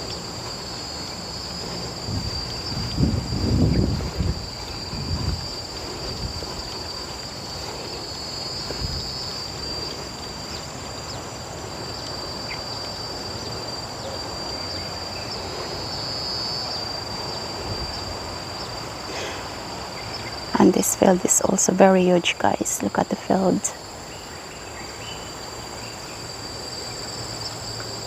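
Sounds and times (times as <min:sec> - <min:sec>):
insect chorus drone: 0:00.0 - 0:28.0
low background noise: 0:00.0 - 0:28.0.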